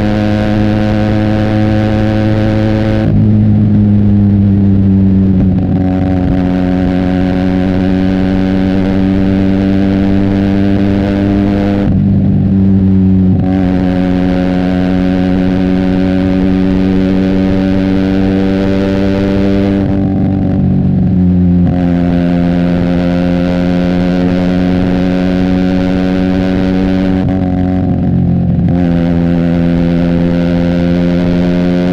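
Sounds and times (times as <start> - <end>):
motorcycle engine cruising: 0.0 - 31.9.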